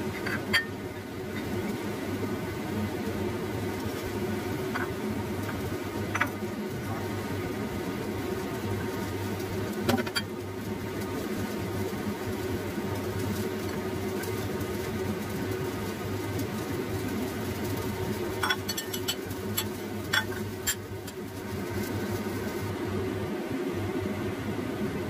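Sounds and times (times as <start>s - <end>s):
soup boiling in a pot: 0.0s - 25.0s.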